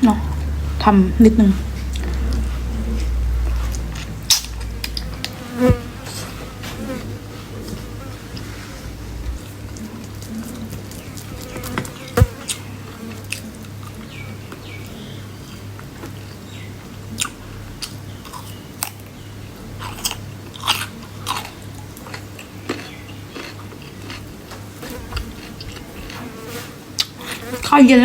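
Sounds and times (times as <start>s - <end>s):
person chewing food: 1.6s - 5.8s, 6.4s - 16.2s, 17.1s - 19.1s, 19.7s - 27.5s
food crunching: 1.6s - 16.3s, 17.1s - 27.6s.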